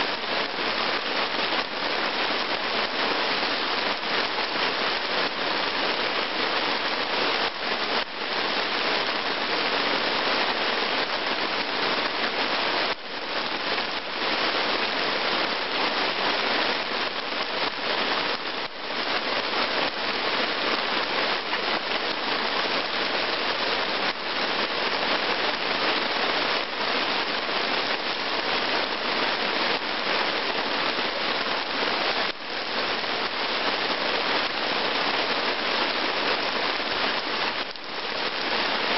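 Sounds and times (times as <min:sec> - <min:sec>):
heavy rain on ground and puddles: 0:00.0 - 0:38.9.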